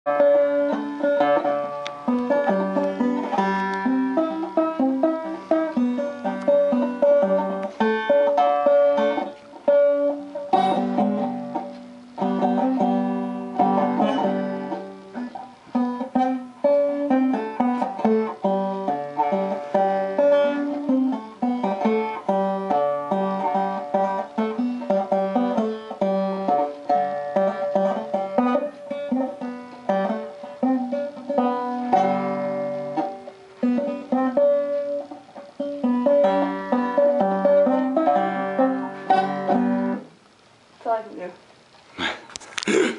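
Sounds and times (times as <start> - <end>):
banjo picking: 0.1 - 40.3.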